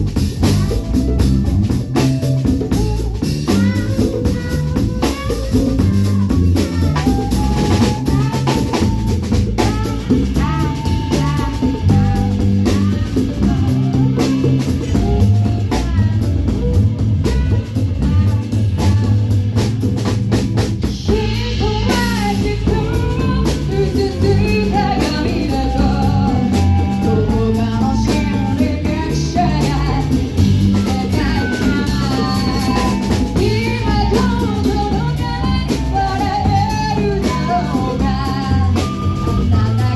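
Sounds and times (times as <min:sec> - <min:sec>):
drum kit: 0:00.0 - 0:39.9
rock band playing live: 0:00.0 - 0:39.9
wavering melody line: 0:00.6 - 0:17.2, 0:21.5 - 0:39.9.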